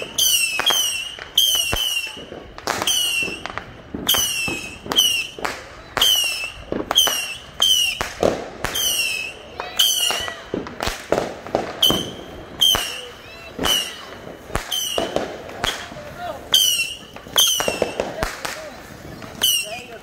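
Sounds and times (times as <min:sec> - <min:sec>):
whistling fireworks cracking: 0:00.0 - 0:20.0.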